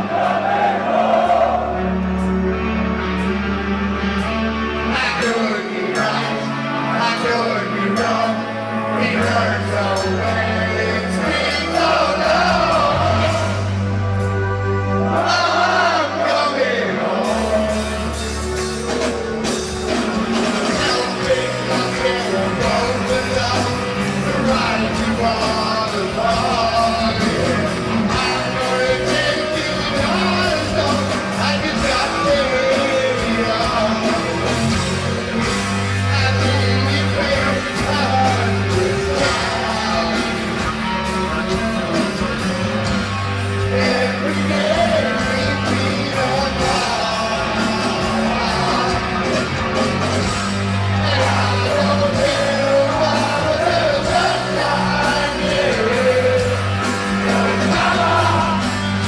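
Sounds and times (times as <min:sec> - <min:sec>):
live rock band playing ballad: 0:00.0 - 0:59.0
person singing lead vocals: 0:04.8 - 0:13.8, 0:14.8 - 0:19.5, 0:20.1 - 0:59.0.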